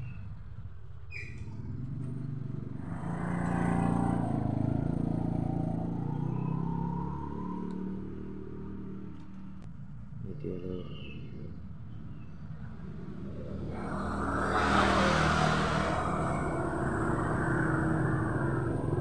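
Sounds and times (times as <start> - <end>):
motorcycle engine passing by: 0.1 - 9.6, 12.3 - 19.0.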